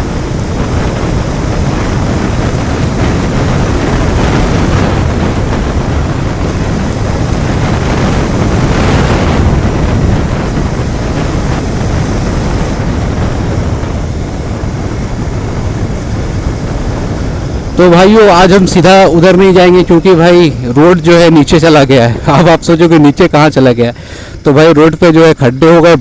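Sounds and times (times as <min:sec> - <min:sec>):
motorcycle engine running: 0:00.0 - 0:24.0
wind noise on microphone: 0:00.0 - 0:26.0.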